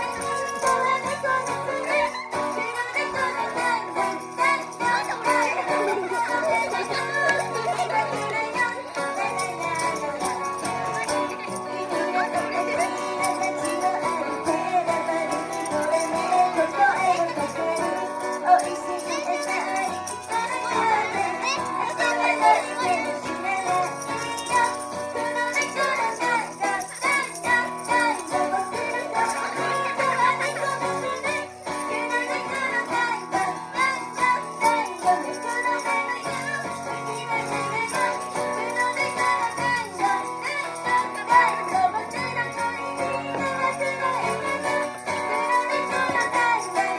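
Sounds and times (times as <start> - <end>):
live christmas song music: 0.0 - 46.9.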